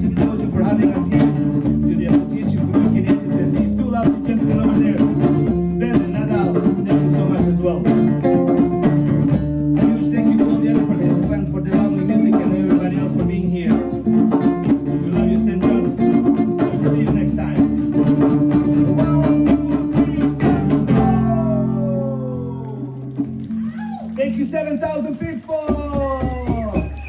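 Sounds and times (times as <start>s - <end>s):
strummed guitar: 0.0s - 23.7s
drums: 0.0s - 27.0s.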